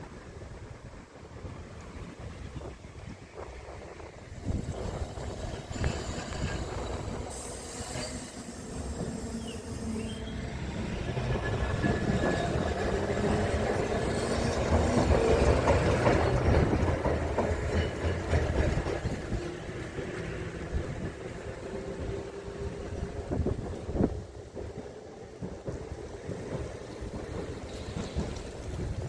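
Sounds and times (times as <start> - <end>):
train wheels clattering on rails: 3.4 - 29.0.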